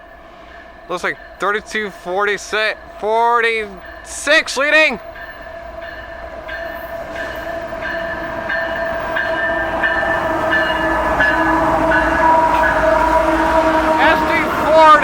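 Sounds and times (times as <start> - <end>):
diesel locomotive engine hum: 0.0 - 15.0.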